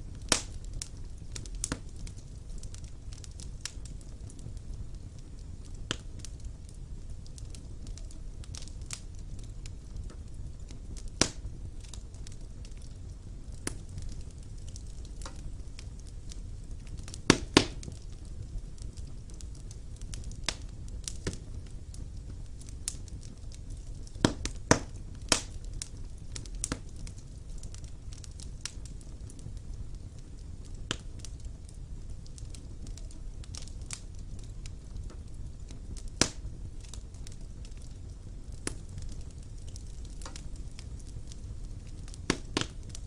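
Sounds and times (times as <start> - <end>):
fire crackling and popping: 0.0 - 43.0
low steady fire rumble: 0.0 - 43.0.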